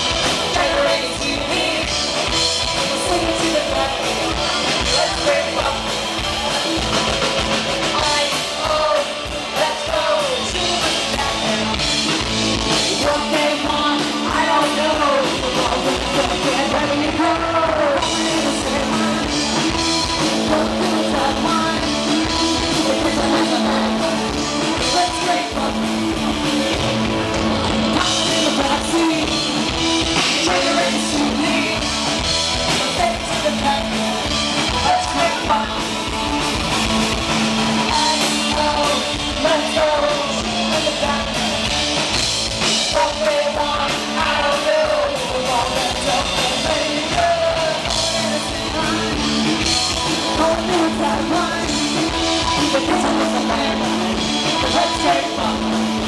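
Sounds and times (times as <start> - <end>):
punk rock band playing: 0.0 - 56.0
woman singing lead: 0.0 - 56.0.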